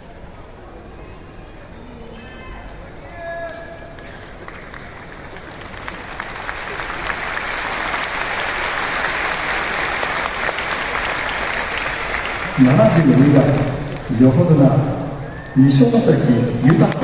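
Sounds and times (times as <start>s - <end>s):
audience applauding: 2.6s - 17.0s.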